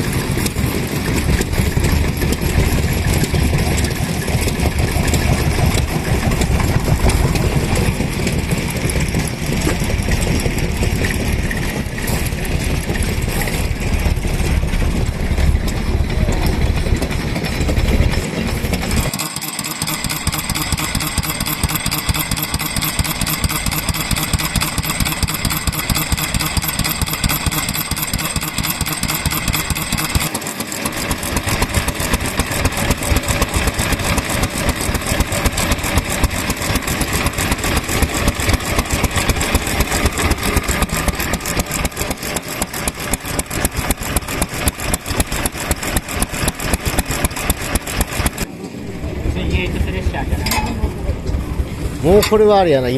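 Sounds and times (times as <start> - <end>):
stationary engines chugging: 0.0 - 52.9.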